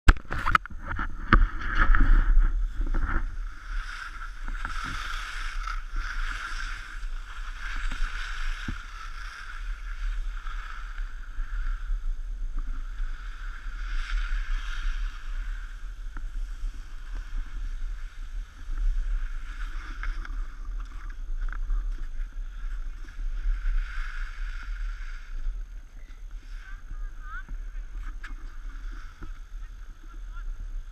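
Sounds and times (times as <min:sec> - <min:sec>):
wind on microphone: 0:00.1 - 0:30.9
skis scraping over snow: 0:00.3 - 0:30.9.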